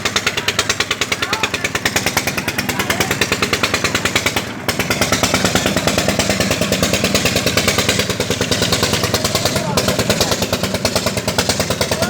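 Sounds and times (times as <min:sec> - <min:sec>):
machine rapid knocking: 0:00.0 - 0:12.0.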